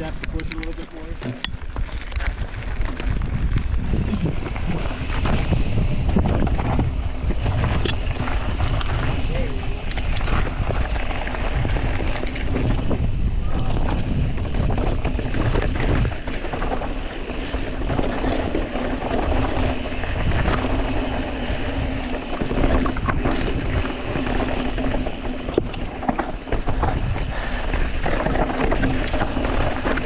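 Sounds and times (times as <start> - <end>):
tyres rolling over dirt and rock: 0.0 - 30.0
wind buffeting microphone: 0.0 - 30.0.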